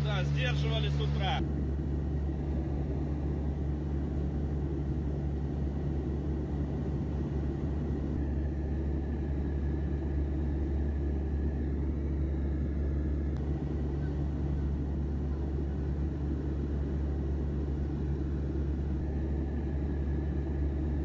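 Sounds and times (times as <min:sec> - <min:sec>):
aircraft engine drone in cabin: 0:00.0 - 0:21.0.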